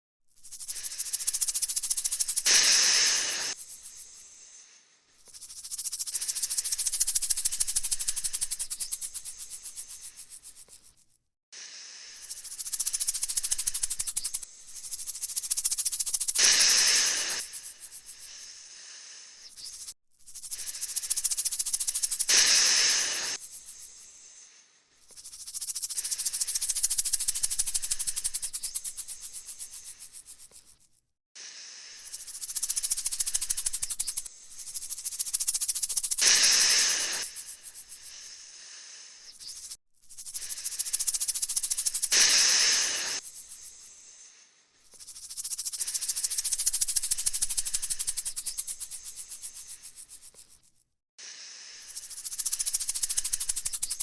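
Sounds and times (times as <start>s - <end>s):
rattlesnake rattle buzzing: 0.3s - 54.0s
snake hissing: 0.5s - 10.7s, 11.6s - 30.6s, 31.4s - 50.4s, 51.2s - 54.0s.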